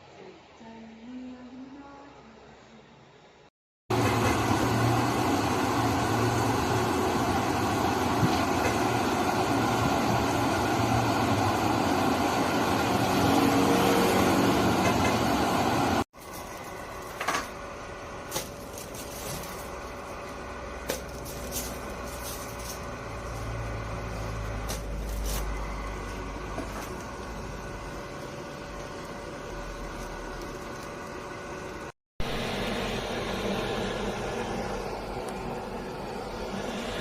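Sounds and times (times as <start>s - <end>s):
exhaust fan rushing air: 3.9s - 37.0s.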